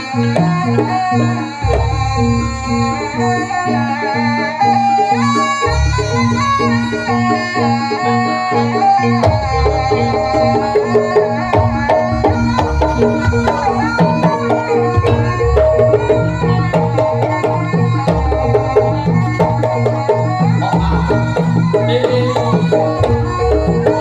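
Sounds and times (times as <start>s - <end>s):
hand drums playing: 0.0s - 24.0s
melody of held notes: 0.0s - 24.0s.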